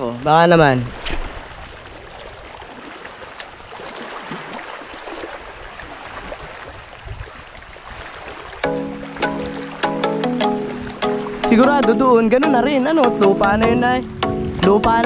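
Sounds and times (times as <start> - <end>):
wind: 0.0 - 15.0
sea water washing: 0.6 - 14.6.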